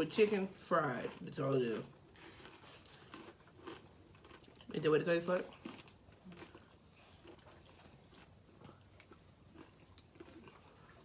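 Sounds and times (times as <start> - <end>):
person chewing crisp food: 0.0 - 11.0.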